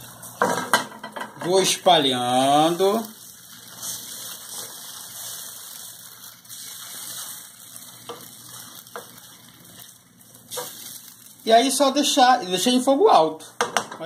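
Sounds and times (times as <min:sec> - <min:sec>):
batter sizzling in a frying pan: 0:00.0 - 0:13.4.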